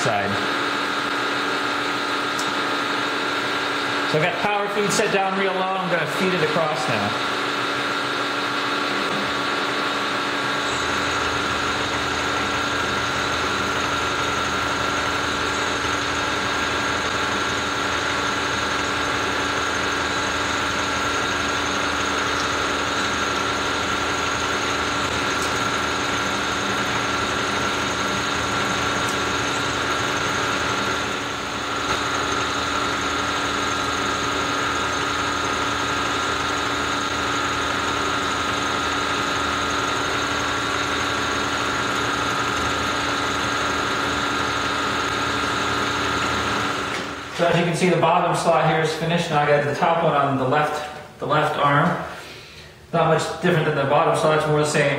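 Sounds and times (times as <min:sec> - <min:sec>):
milling machine cutting metal: 0:00.0 - 0:48.0.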